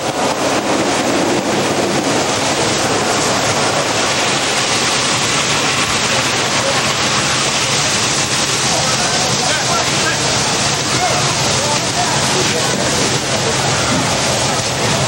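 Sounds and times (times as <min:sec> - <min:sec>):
water rushing from hose stream: 0:00.0 - 0:15.0.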